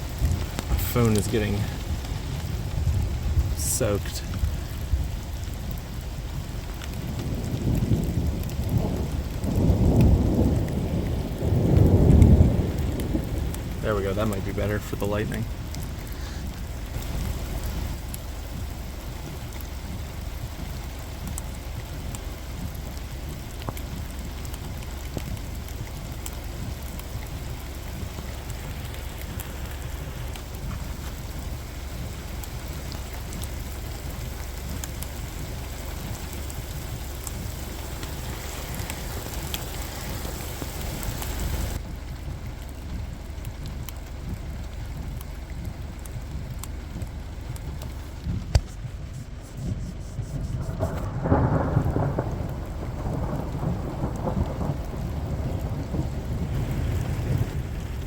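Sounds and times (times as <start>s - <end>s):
heavy rain falling: 0.0s - 58.0s
low rumble: 0.0s - 58.0s
raindrops tapping: 0.0s - 58.0s.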